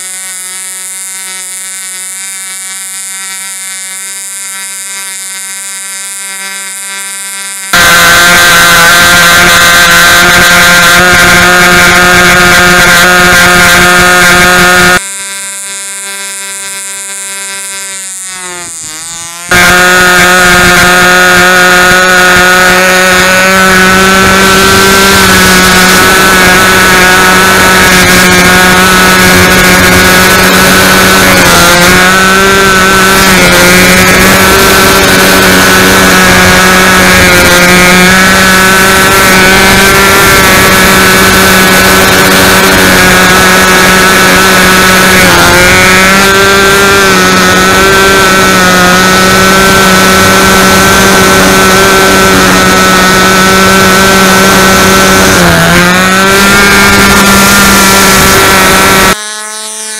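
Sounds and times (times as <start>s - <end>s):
model airplane engine buzzing: 0.0s - 59.9s.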